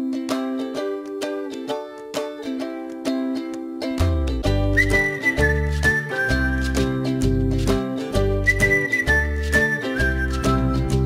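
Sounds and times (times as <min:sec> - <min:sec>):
upbeat music with whistled melody: 0:00.0 - 0:11.0.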